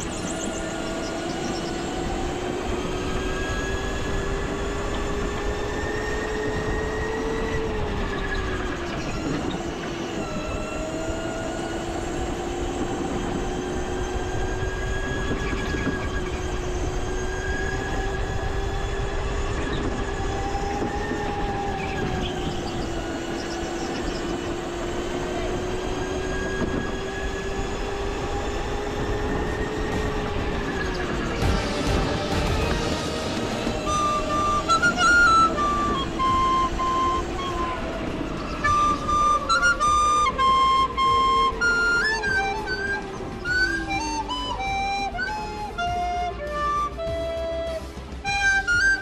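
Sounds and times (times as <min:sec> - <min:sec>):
go-kart engine whine: 0:00.0 - 0:49.0.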